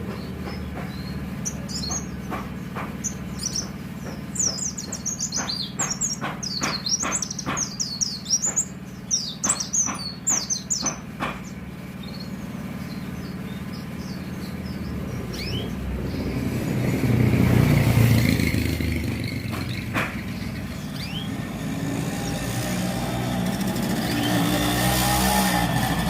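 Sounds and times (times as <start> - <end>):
bird singing high sliding chirps: 0.1 - 2.4, 3.0 - 26.0.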